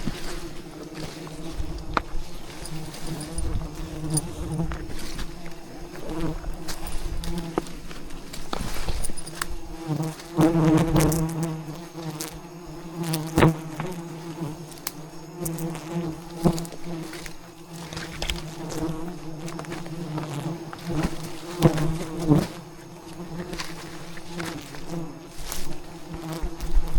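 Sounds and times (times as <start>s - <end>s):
bees buzzing: 0.0s - 26.9s.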